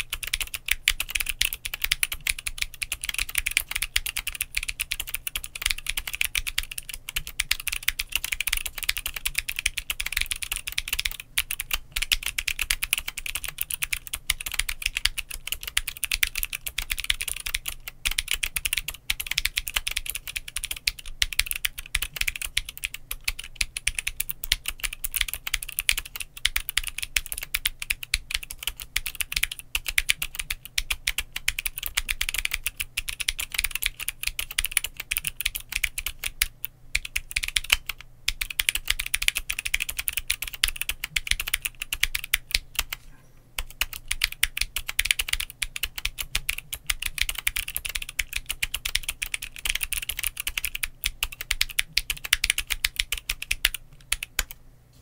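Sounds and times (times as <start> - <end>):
fast typing on mechanical keyboard: 0.0 - 43.0, 43.6 - 54.6.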